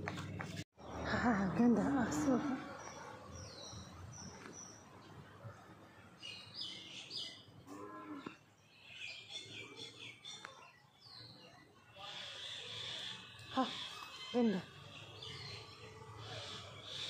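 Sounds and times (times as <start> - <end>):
small birds chirping: 0.8 - 17.0.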